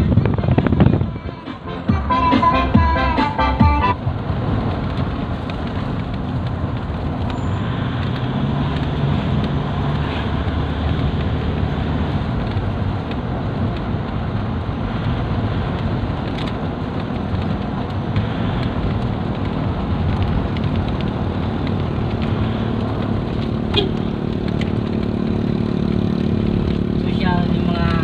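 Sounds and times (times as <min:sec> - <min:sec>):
car engine and tyre noise: 0:00.0 - 0:28.0.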